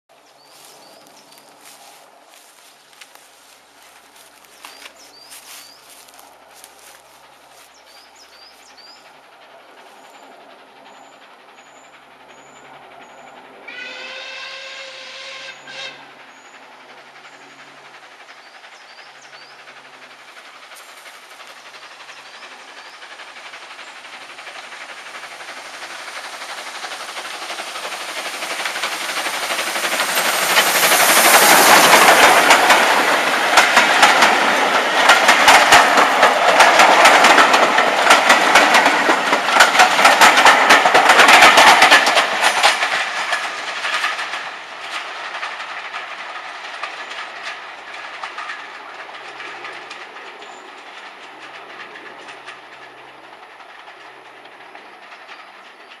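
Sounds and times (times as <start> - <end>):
steam locomotive passing: 0.1 - 56.0
train wheels clickety-clack: 0.1 - 56.0.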